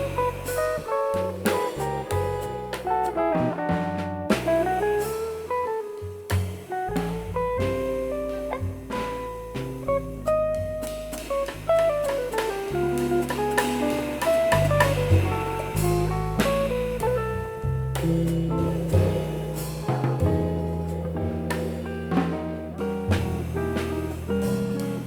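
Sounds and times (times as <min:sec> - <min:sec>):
jazz trio playing: 0:00.0 - 0:25.0.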